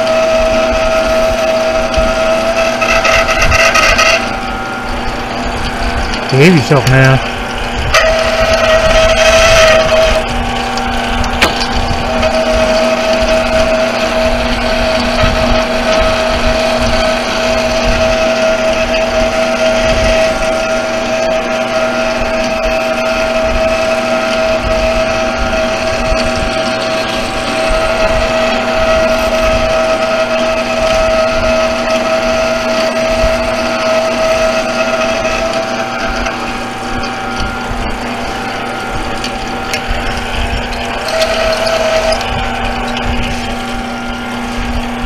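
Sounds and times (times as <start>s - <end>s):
metal lathe whining and rumbling: 0.0s - 45.0s.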